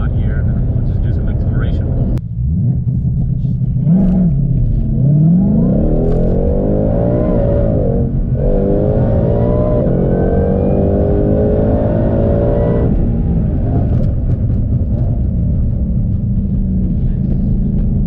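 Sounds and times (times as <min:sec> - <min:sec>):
car engine accelerating: 0:00.0 - 0:18.0
supercharger whine: 0:00.0 - 0:18.0.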